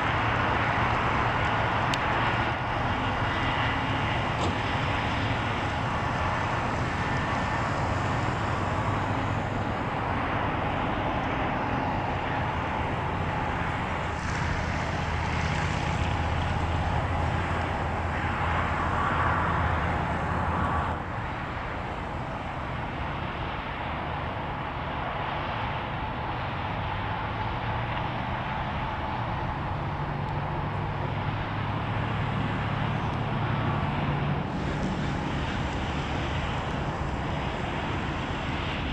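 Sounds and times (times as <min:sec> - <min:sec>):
jet engines rumbling with whine: 0:00.0 - 0:38.9.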